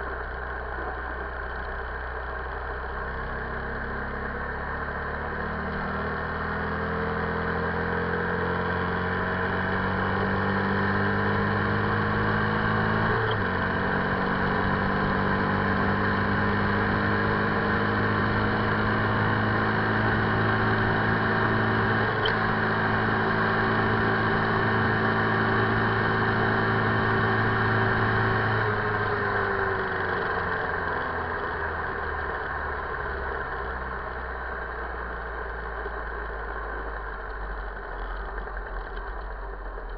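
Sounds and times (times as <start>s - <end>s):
motorcycle engine revving: 2.7s - 39.9s.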